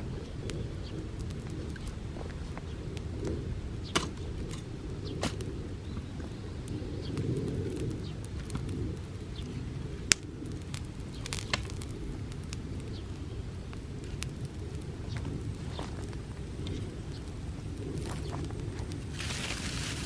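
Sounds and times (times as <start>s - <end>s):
grass fire burning and crackling: 0.0s - 20.0s.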